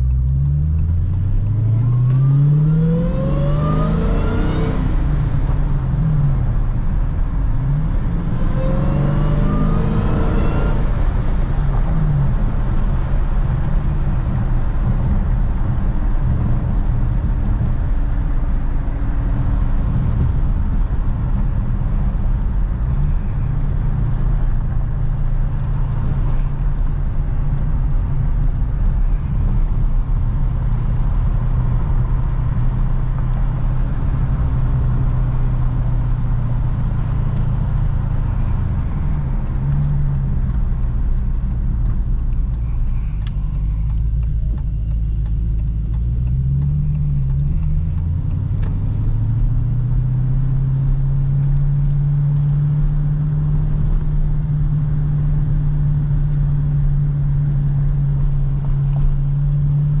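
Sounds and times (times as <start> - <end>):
car engine drone from cabin: 0.0 - 60.0.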